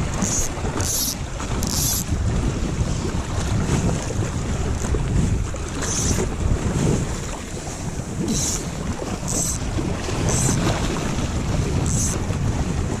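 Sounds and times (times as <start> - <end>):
lake waves washing: 0.0 - 13.0
wind buffeting microphone: 0.0 - 13.0.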